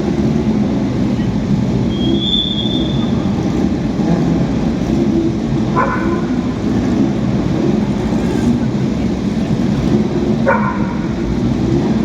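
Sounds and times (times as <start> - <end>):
racing car engines rumbling: 0.0 - 12.0.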